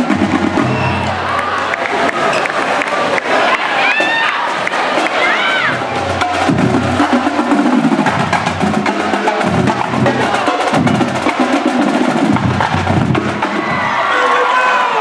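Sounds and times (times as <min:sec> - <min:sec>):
marching drumline playing: 0:00.0 - 0:14.1.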